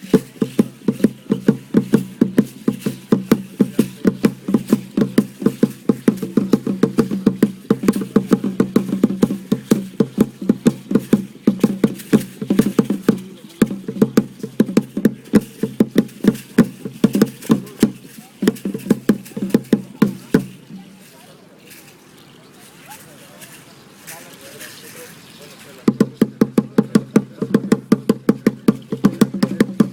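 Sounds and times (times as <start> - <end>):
rapid drumbeat: 0.0 - 20.8, 25.8 - 29.9.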